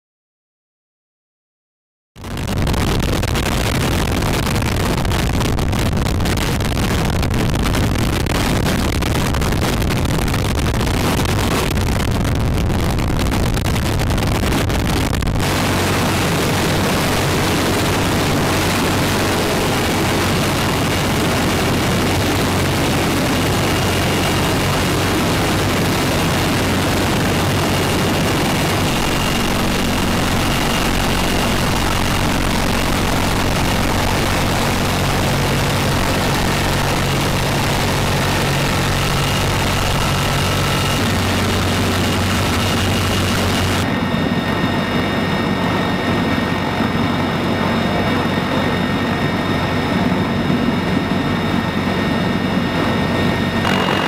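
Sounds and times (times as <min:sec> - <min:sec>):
helicopter turbines and rotors: 0:02.2 - 0:54.0
low hum with high whine: 0:02.2 - 0:54.0.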